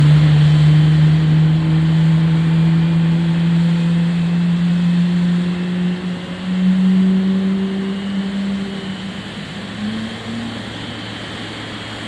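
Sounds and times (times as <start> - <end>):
jet engine spooling up: 0.0 - 12.0.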